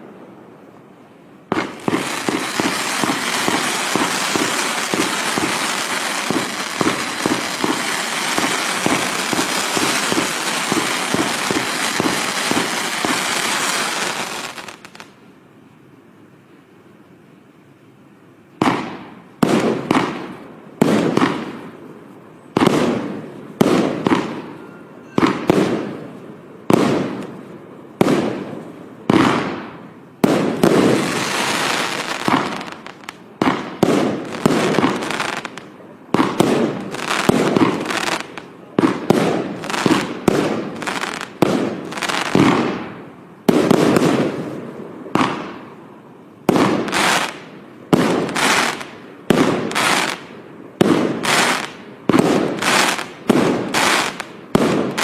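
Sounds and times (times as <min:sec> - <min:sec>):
firework crackle: 0:01.4 - 0:15.4, 0:18.5 - 0:45.8, 0:46.4 - 0:55.0
firework bangs echoing: 0:01.5 - 0:15.0, 0:18.6 - 0:21.8, 0:22.6 - 0:45.8, 0:46.4 - 0:55.0.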